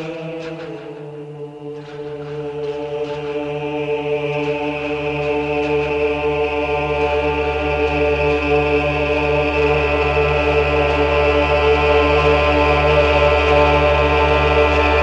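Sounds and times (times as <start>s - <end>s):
chant-like orchestral drone: 0.0s - 15.0s.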